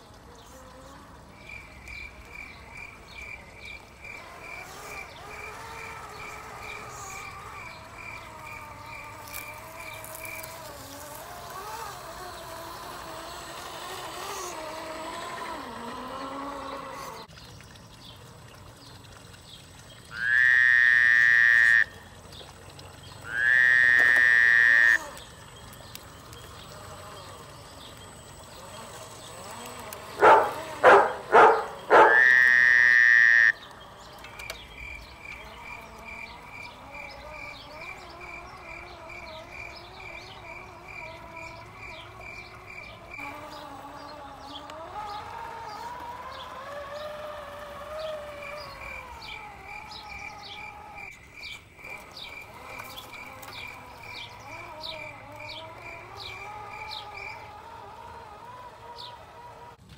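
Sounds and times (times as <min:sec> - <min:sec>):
electric motor whine: 0:00.0 - 0:17.4, 0:20.1 - 0:59.9
birds chirping: 0:00.0 - 0:59.9.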